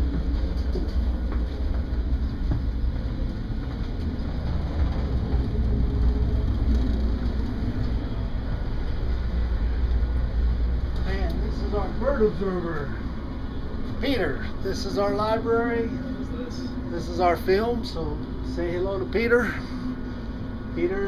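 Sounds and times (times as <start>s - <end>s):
low rumble of ship engines: 0.0s - 21.0s.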